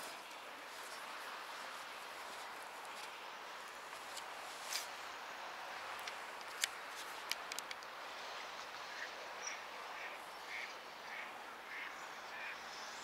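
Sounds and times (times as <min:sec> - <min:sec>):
flowing water rushing: 0:00.0 - 0:12.8.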